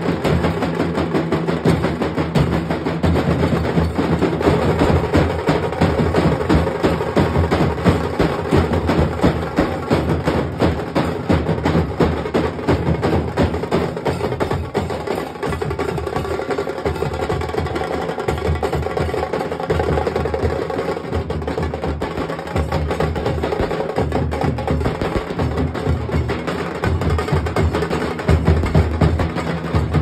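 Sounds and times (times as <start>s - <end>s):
barrel drums beaten with sticks: 0.0s - 30.0s.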